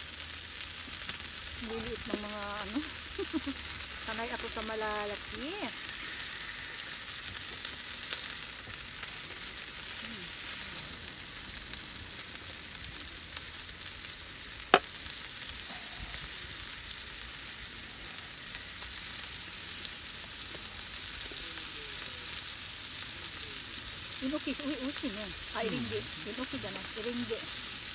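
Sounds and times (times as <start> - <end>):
meat sizzling in frying pan: 0.0 - 27.9.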